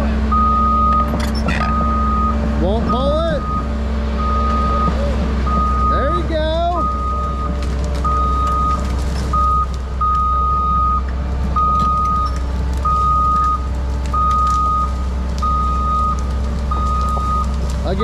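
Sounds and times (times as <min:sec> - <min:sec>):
diesel engine running: 0:00.0 - 0:18.0
reversing alarm beeping: 0:00.3 - 0:17.6.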